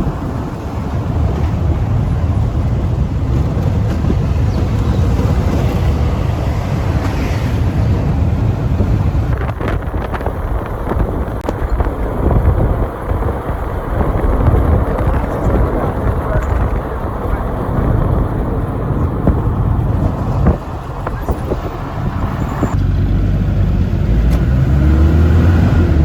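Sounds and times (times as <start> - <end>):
vehicle rumble on road: 0.0 - 26.0
wind buffeting microphone: 0.0 - 26.0.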